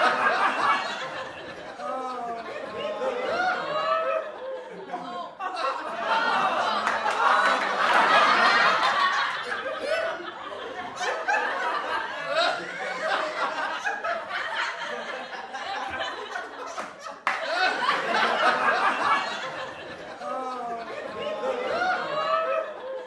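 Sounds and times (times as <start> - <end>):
people talking: 0.0 - 15.0, 15.6 - 23.0
group of people laughing: 0.0 - 23.0.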